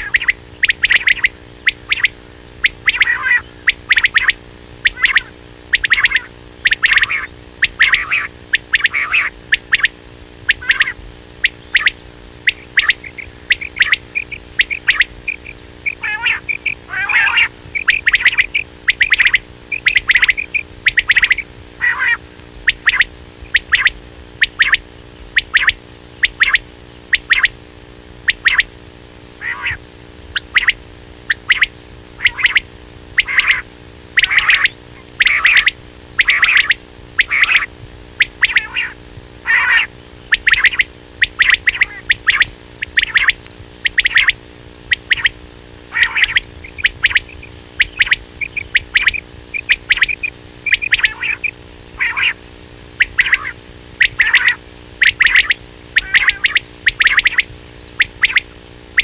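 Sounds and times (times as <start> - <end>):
quail calling: 0.0 - 27.6, 28.2 - 28.8, 29.4 - 59.0
faint steady hum: 0.0 - 59.0.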